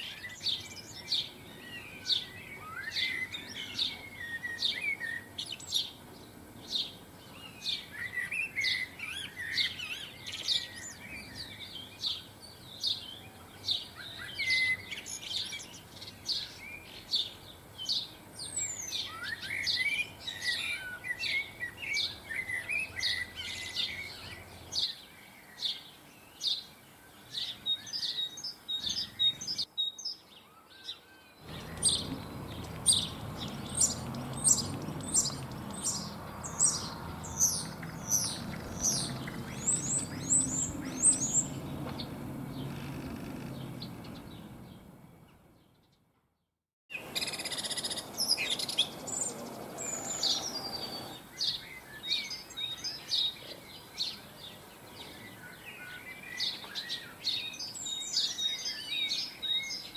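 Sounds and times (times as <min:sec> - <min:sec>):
birds twittering: 0:00.0 - 0:46.1, 0:46.9 - 0:59.9
songbirds chirping: 0:00.0 - 0:59.9.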